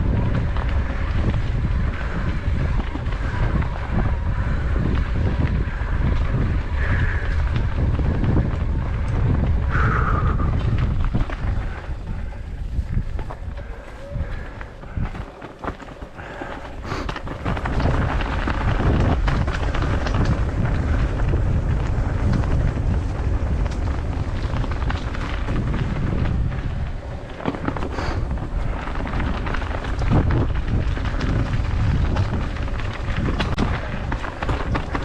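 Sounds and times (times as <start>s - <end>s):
mountain bike rattling: 0.0s - 35.0s
wind buffeting microphone: 0.0s - 35.0s.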